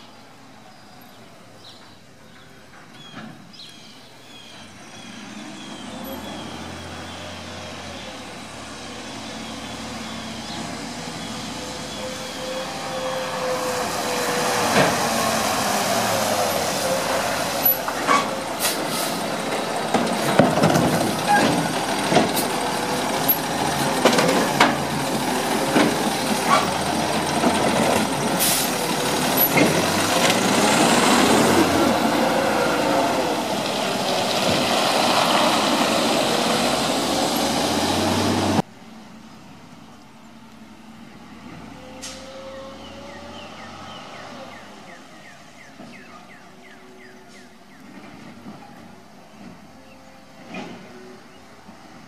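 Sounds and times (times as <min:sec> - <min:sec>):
truck engine pulling away: 0:04.2 - 0:52.0.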